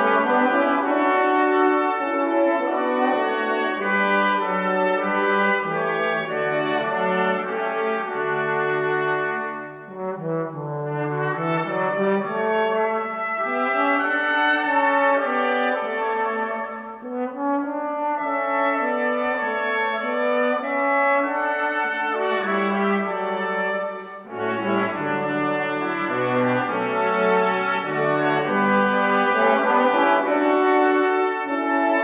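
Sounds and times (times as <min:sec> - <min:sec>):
brass ensemble sustained chords: 0:00.0 - 0:32.0.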